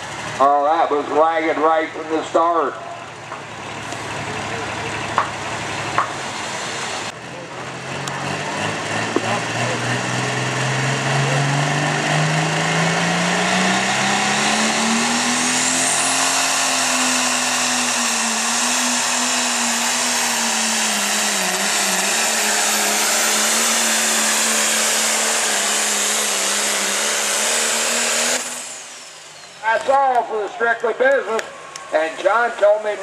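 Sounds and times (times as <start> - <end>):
tractor engine running hard: 0.0 - 33.0.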